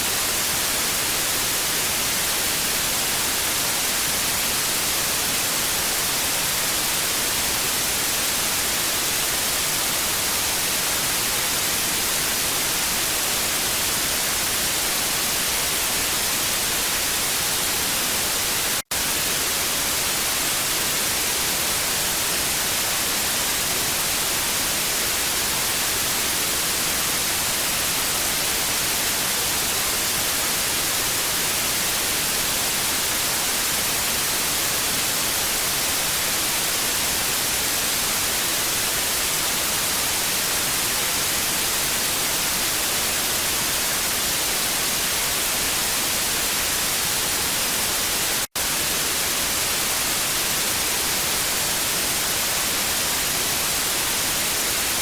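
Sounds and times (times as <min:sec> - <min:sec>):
tv static hiss: 0:00.0 - 0:55.0.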